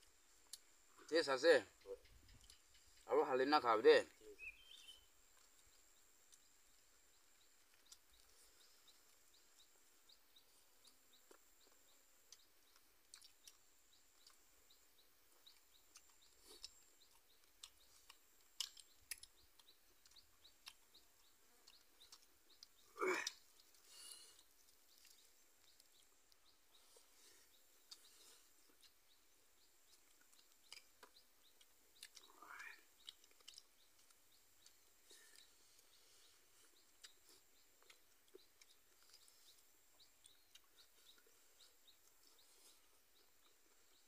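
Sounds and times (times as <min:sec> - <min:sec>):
faint high chirps: 0:00.0 - 0:44.0
lip smacks and chewing: 0:05.2 - 0:44.0.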